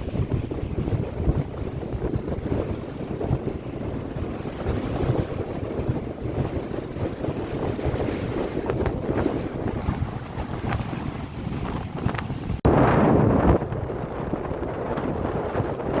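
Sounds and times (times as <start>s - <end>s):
ocean waves washing in: 0.0s - 16.0s
wind buffeting microphone: 0.0s - 16.0s.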